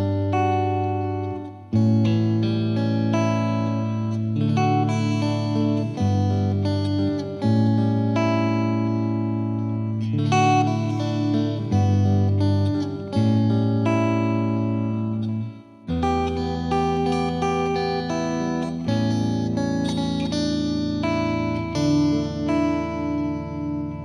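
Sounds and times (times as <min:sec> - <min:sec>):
slow guitar music: 0:00.0 - 0:24.0.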